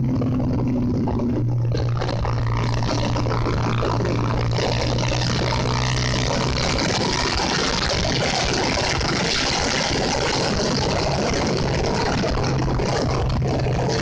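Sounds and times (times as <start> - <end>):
motorcycle engine hum: 0.0 - 14.0
wind rush on microphone: 0.0 - 14.0.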